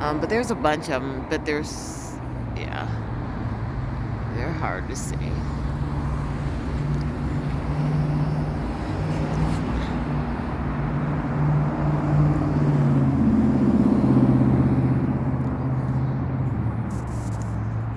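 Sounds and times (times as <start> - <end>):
low engine drone: 0.0 - 17.9.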